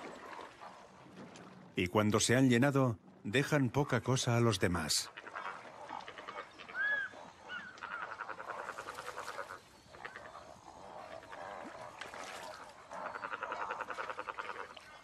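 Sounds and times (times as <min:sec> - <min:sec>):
waterbirds calling: 0:00.0 - 0:15.0.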